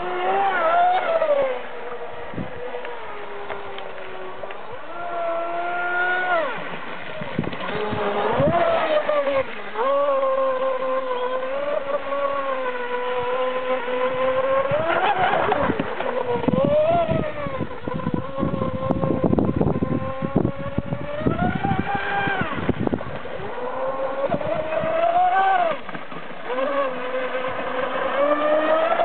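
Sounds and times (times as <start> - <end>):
electric boat motor whining: 0.0 - 29.0.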